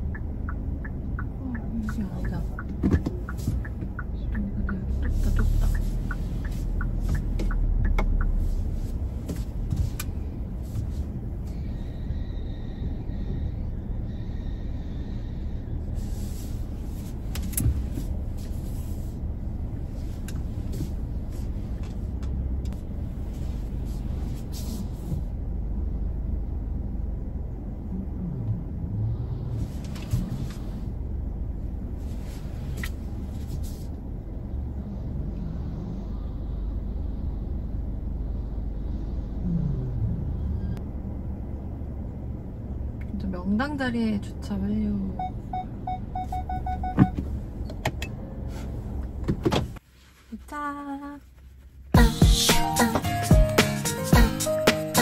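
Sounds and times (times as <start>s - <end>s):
car rumbling inside cabin: 0.0s - 55.0s.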